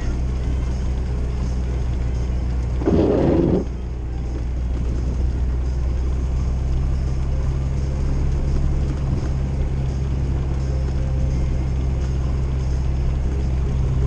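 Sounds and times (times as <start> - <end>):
car engine droning: 0.0 - 14.0
road noise inside car: 0.0 - 14.0.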